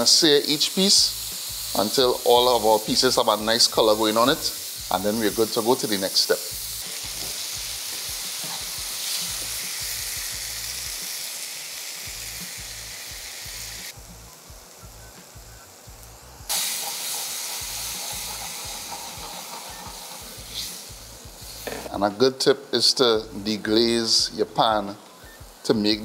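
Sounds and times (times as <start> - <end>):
meat sizzling in a frying pan: 0.0 - 26.0
water hissing in hot pan: 0.0 - 26.0.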